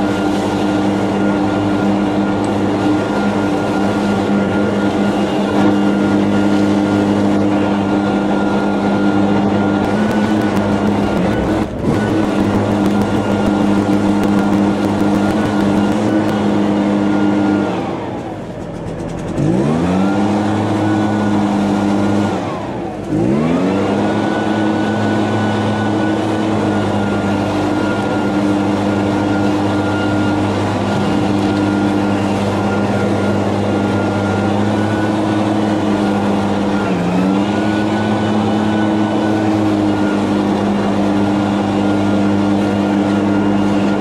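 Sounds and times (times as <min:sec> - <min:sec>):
leaf blower engine revving: 0:00.0 - 0:18.3, 0:19.0 - 0:44.0.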